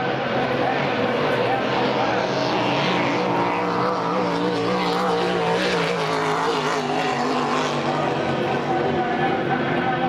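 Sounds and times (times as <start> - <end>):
powerboat engine at high revs: 0.0 - 10.0.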